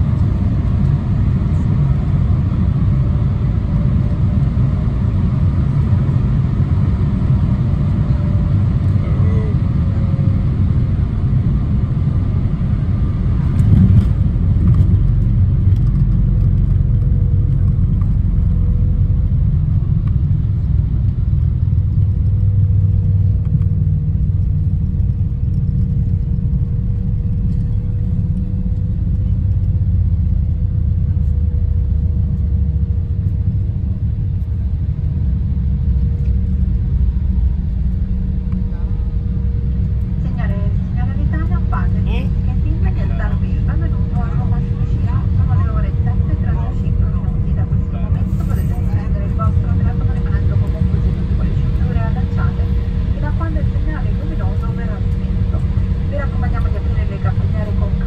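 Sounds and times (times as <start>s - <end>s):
heavy rumble of wheels and engines: 0.0s - 58.0s.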